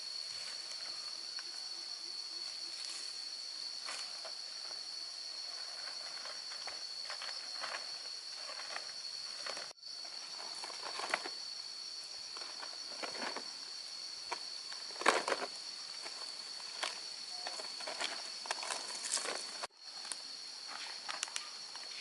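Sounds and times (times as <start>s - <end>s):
high-pitched insect drone: 0.0s - 22.0s
rustling: 2.7s - 11.6s, 12.2s - 22.0s.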